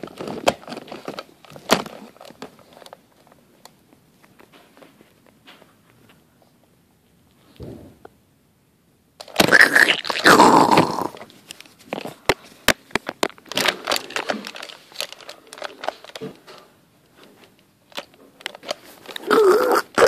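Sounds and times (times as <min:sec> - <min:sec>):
rustling: 0:00.0 - 0:08.1, 0:09.2 - 0:20.0.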